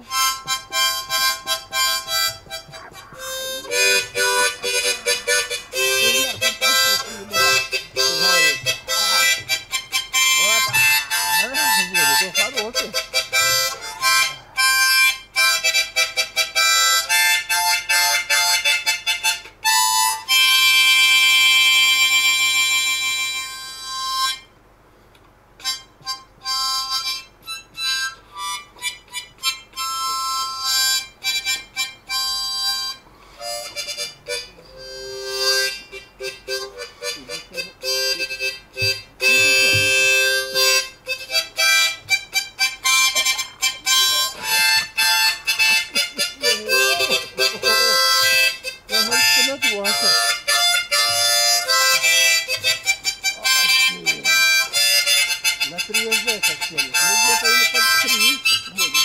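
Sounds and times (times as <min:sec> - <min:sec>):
background music melody: 0:00.0 - 0:24.5, 0:25.6 - 0:59.0.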